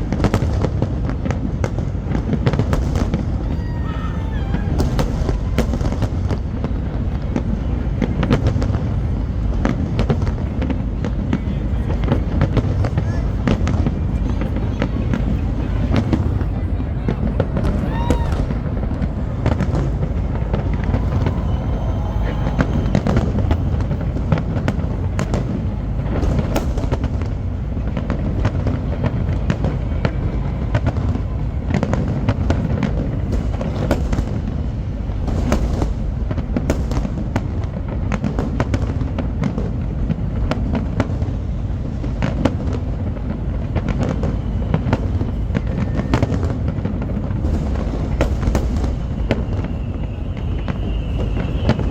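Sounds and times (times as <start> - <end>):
continuous low rumble: 0.0 - 51.9
fireworks bursting with bangs: 0.0 - 51.9.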